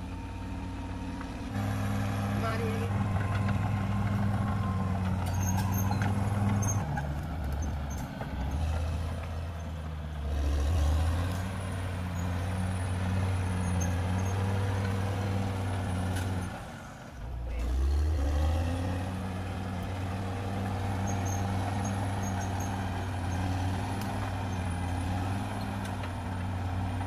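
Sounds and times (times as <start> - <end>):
bulldozer engine under load: 0.0 - 27.0.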